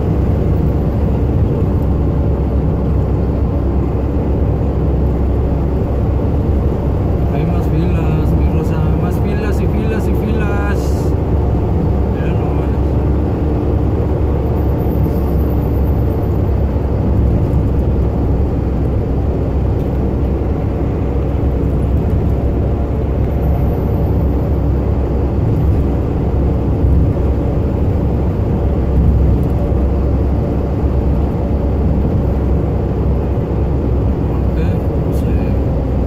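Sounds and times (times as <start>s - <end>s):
road noise: 0.0s - 36.0s
truck engine drone: 0.0s - 36.0s.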